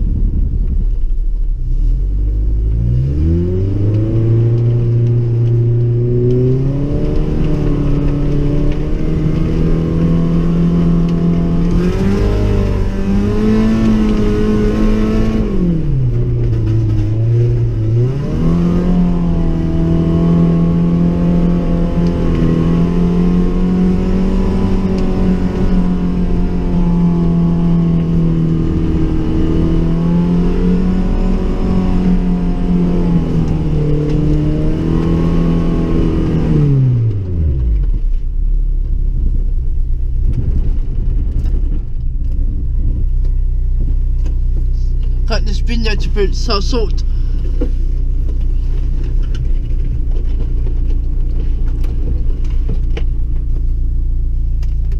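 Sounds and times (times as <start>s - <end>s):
car engine from inside cabin: 0.0s - 54.9s.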